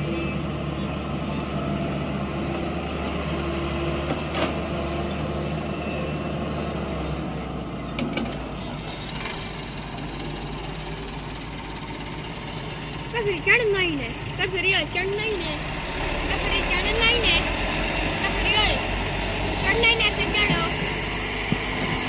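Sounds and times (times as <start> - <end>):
excavator diesel engine drone: 0.0 - 22.0.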